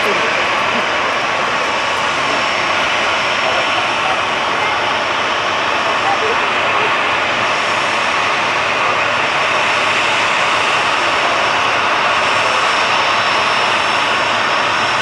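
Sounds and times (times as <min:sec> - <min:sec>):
jet engines at taxi thrust: 0:00.0 - 0:15.0.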